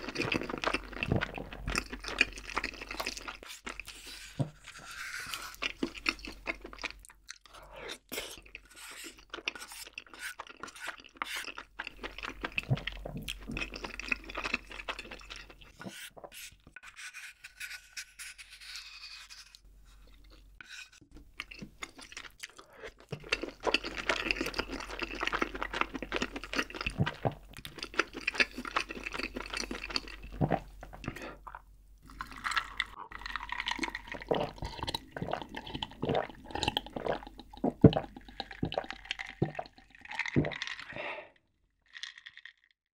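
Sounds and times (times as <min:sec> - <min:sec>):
sipping and gulping: 0:00.0 - 0:04.6, 0:05.4 - 0:16.3, 0:21.3 - 0:42.7.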